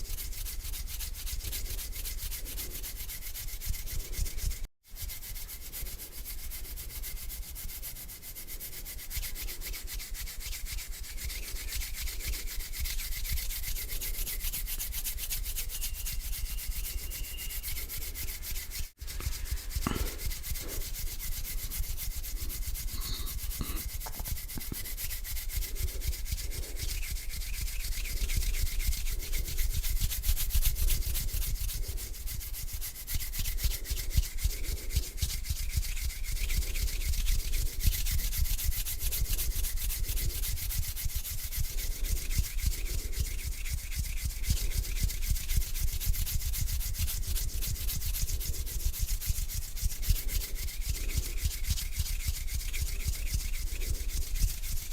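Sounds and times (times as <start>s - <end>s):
hands rubbing together: 0.0s - 54.9s.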